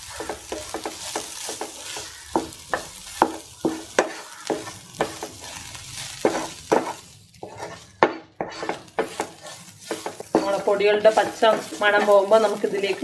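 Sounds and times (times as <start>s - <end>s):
frying sizzle: 0.0s - 13.0s
wooden spatula scraping pan: 0.0s - 13.0s.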